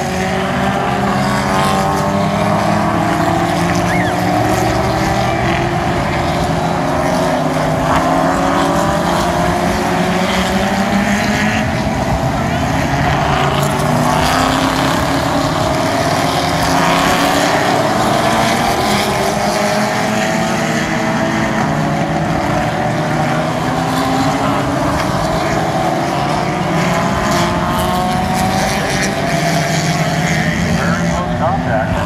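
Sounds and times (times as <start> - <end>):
racing car engines accelerating: 0.0 - 32.0.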